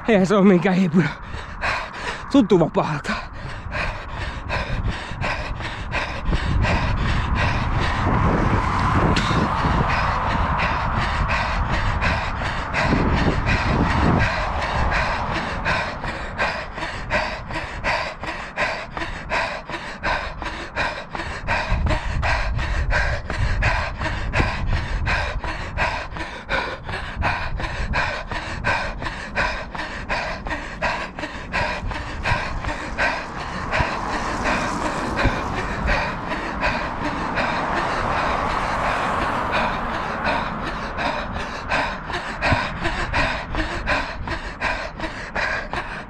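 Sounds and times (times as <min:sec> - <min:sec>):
runner breathing hard: 0:00.0 - 0:46.0
steady rushing noise: 0:00.0 - 0:46.0.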